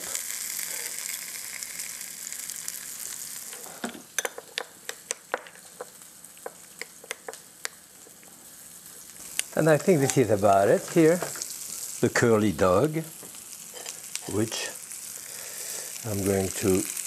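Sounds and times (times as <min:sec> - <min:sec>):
hot dogs sizzling in oil: 0:00.0 - 0:17.0.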